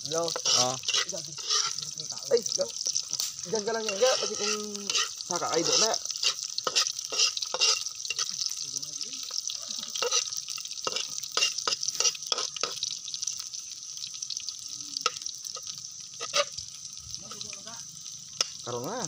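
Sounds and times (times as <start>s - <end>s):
utensil scraping a wok: 0.0s - 8.6s, 9.2s - 13.4s, 14.3s - 17.5s, 18.2s - 18.8s
sizzling in oil: 0.0s - 19.0s.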